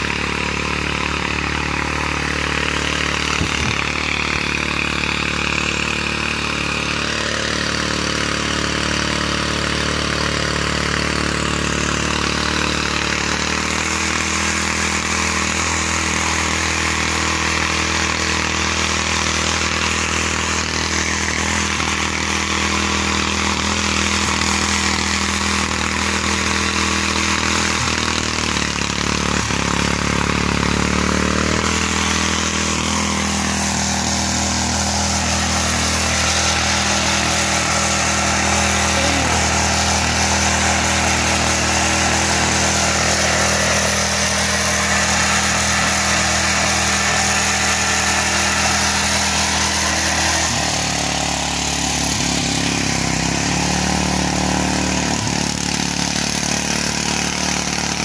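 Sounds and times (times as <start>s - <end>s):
tiller engine running: 0.0s - 58.0s.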